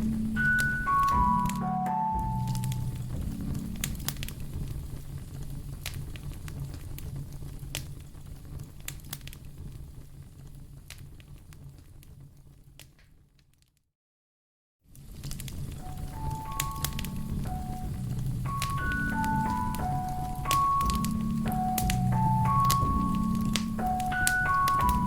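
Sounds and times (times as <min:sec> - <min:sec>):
low steady rumble: 0:00.0 - 0:12.6, 0:15.2 - 0:25.0
fire crackling and popping: 0:00.0 - 0:13.6, 0:14.9 - 0:25.0.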